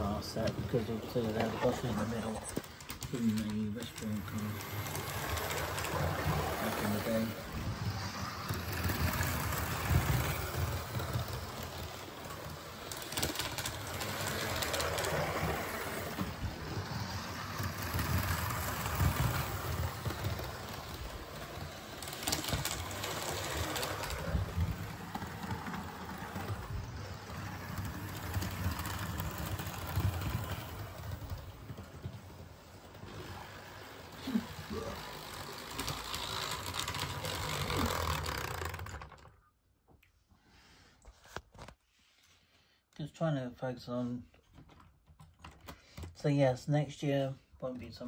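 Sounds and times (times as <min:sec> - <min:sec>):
model train motor whirring: 0:00.0 - 0:39.3
wheels rumbling on rails: 0:00.0 - 0:39.3.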